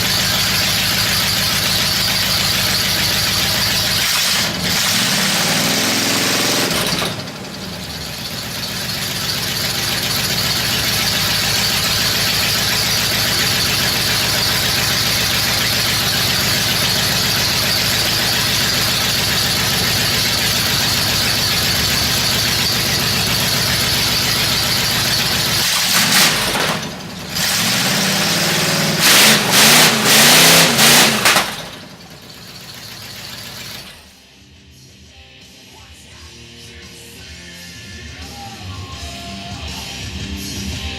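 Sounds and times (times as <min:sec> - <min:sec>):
car engine running and revving: 0:00.0 - 0:34.1.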